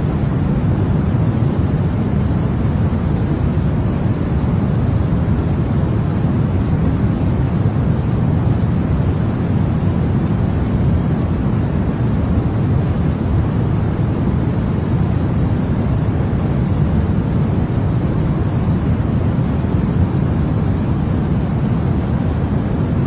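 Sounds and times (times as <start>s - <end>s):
deep white noise: 0.0s - 23.0s.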